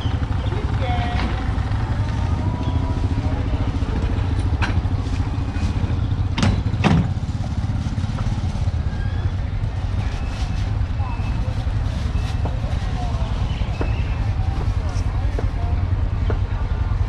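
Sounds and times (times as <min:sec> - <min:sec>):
faint voices: 0:00.0 - 0:17.0
motorcycles passing: 0:00.0 - 0:17.0.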